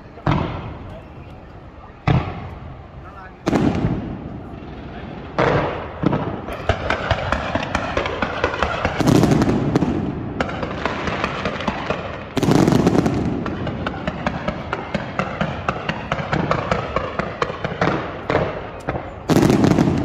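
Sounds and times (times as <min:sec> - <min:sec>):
deep firework booms: 0:00.0 - 0:01.2, 0:01.9 - 0:20.0
firework bangs: 0:00.0 - 0:20.0
firework crackling: 0:00.0 - 0:20.0.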